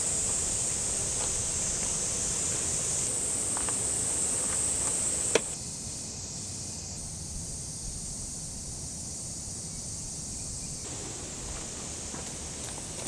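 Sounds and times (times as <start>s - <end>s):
high-pitched insect chirring: 0.0s - 10.9s.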